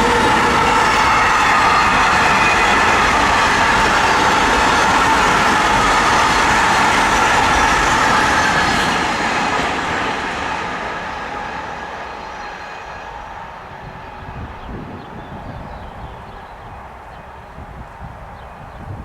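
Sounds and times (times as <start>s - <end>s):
train passing: 0.0s - 18.9s.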